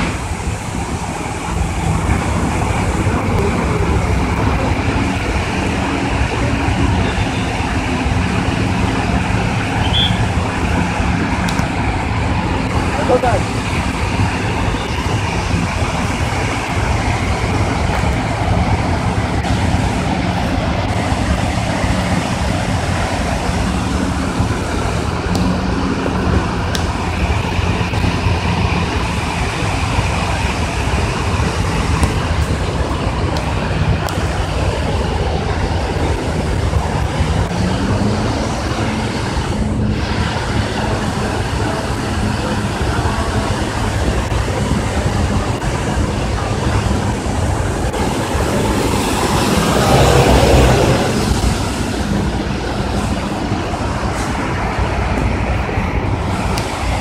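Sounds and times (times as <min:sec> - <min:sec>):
water rushing from spillway: 0:00.0 - 0:57.0.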